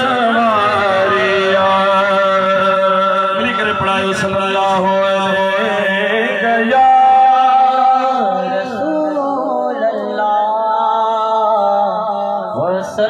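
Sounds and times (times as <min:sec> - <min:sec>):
man singing: 0:00.0 - 0:13.0.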